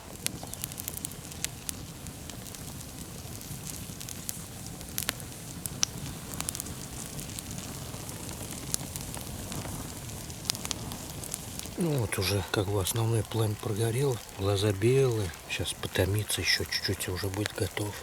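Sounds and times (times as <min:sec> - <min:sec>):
campfire flames rumbling: 0:00.0 - 0:18.0
fire crackles and pops: 0:00.0 - 0:18.0.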